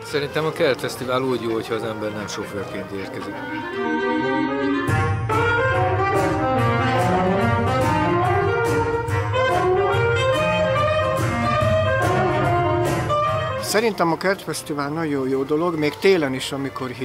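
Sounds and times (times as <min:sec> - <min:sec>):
horn melody: 0:00.0 - 0:16.7
jazz band playing: 0:00.0 - 0:17.0.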